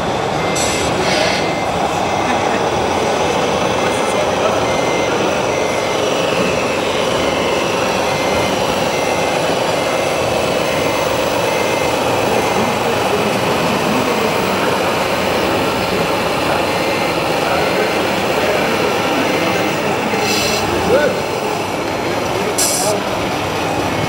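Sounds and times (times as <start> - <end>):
exhibition hall din: 0.0 - 24.0
faint electronic beeps: 0.1 - 20.2.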